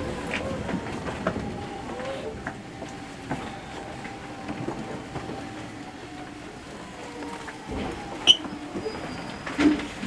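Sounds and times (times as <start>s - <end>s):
electric train running noise: 0.0s - 10.0s
wheels clicking over rail joints: 0.0s - 10.0s.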